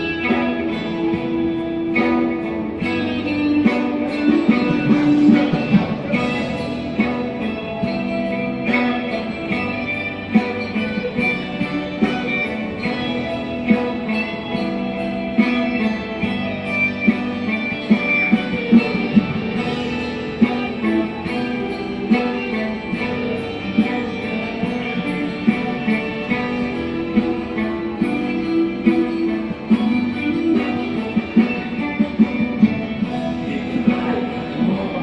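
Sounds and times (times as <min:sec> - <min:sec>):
backing track with ticking beat: 0:00.0 - 0:35.0
ukulele melody through amplifier: 0:00.0 - 0:35.0.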